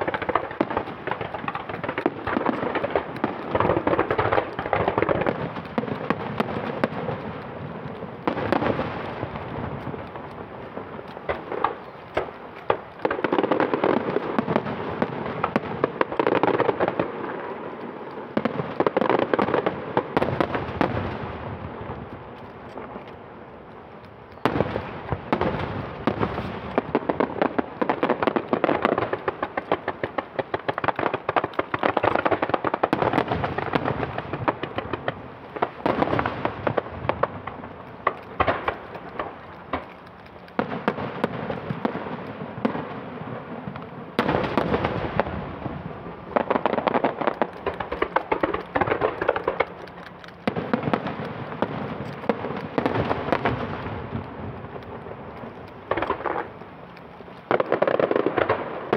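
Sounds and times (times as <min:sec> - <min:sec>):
dense rapid crackling: 0:00.0 - 0:42.6, 0:44.2 - 0:58.9
firework shells bursting: 0:00.0 - 0:42.8, 0:43.7 - 0:58.9.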